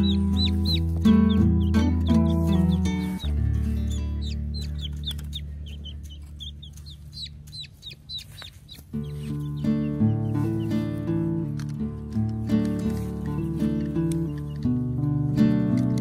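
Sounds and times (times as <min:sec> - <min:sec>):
baby chick peeping: 0:00.0 - 0:16.0
background music: 0:00.0 - 0:16.0.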